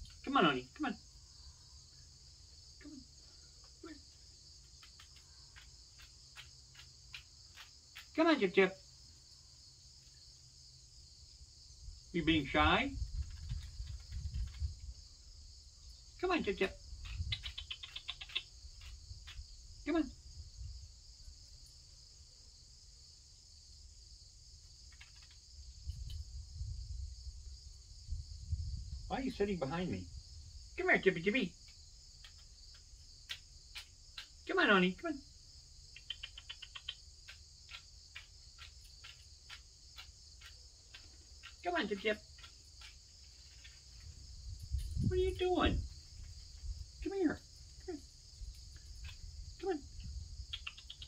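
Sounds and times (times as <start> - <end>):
high-pitched insect chorus: 0.0 - 51.0.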